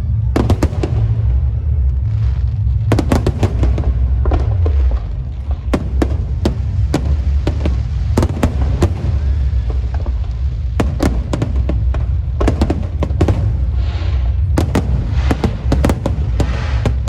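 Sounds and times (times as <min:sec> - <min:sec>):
fireworks cracks and bangs: 0:00.0 - 0:17.0
low rumble: 0:00.0 - 0:17.0.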